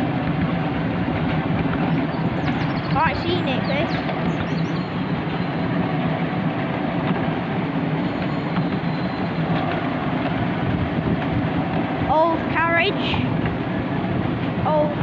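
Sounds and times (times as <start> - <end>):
miniature train wheels rumbling: 0.0 - 15.0.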